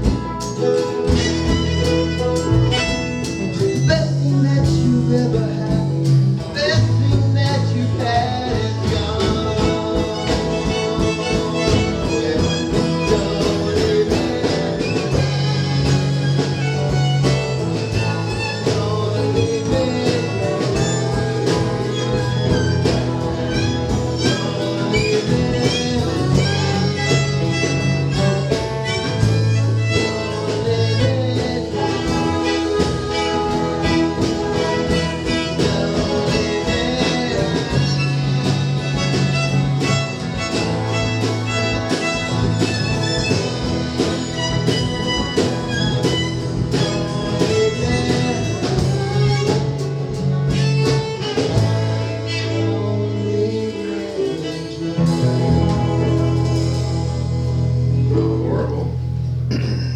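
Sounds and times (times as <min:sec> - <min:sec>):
person singing: 0:00.0 - 0:44.5, 0:46.3 - 0:50.1, 0:50.7 - 0:59.9
fiddle: 0:00.0 - 0:58.6
country band playing: 0:00.0 - 0:59.9.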